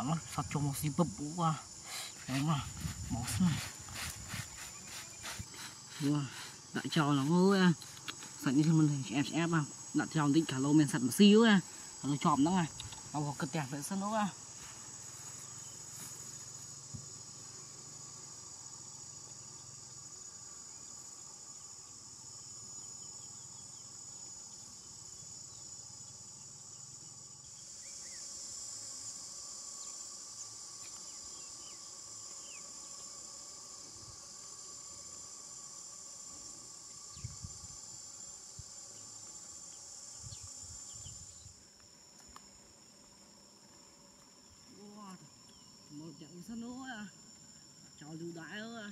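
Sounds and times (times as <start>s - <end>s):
insect chorus buzzing: 0.0s - 48.9s.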